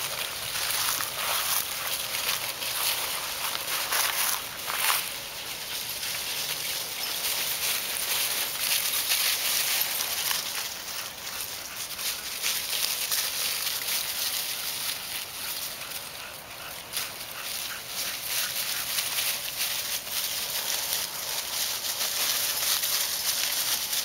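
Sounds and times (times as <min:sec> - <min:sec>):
dry leaves crunching under paws: 0:00.0 - 0:24.0.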